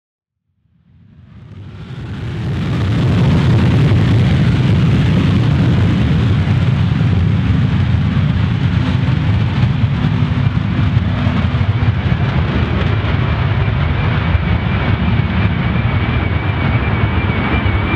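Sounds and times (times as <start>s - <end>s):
loud steady jet engine noise: 0.8s - 17.9s.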